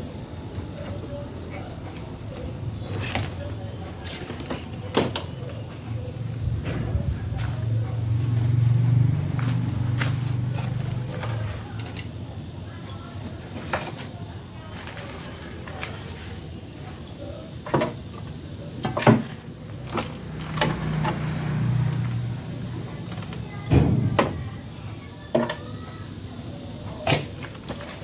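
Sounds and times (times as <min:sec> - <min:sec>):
low hum: 0:00.0 - 0:27.7
steady background hiss: 0:00.0 - 0:28.0.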